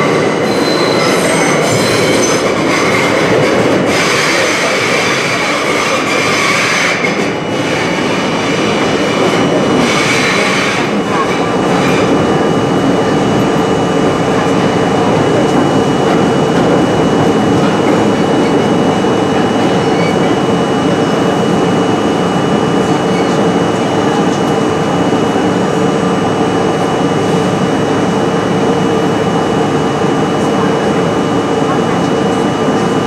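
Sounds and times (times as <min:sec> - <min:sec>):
subway wheels rumbling on rail: 0:00.0 - 0:33.0
constant high whine: 0:01.6 - 0:33.0.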